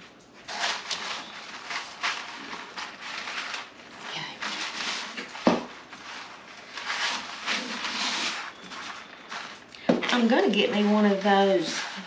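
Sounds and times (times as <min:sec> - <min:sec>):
parchment paper rustling: 0:00.0 - 0:12.0.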